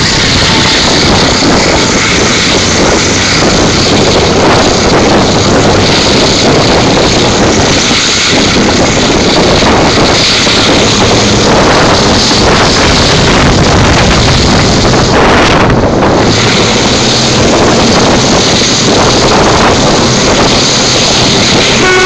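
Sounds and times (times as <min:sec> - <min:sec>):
train running noise: 0:00.0 - 0:22.0
wind rushing over microphone: 0:00.0 - 0:22.0.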